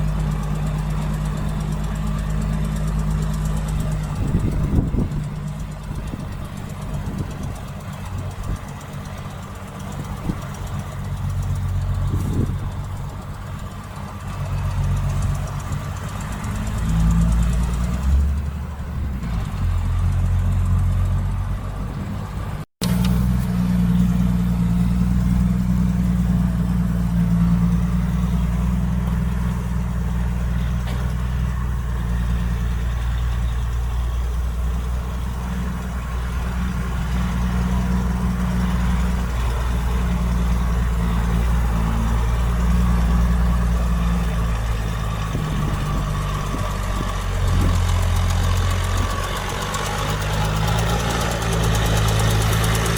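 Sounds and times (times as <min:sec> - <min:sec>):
diesel engine low rumble: 0:00.0 - 0:52.9.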